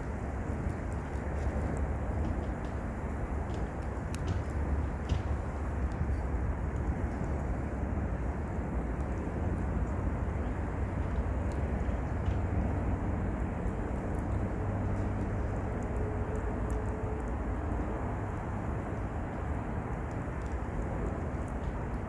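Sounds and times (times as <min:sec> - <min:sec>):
fire low rumble: 0:00.0 - 0:22.0
wood fire crackling: 0:00.0 - 0:22.0.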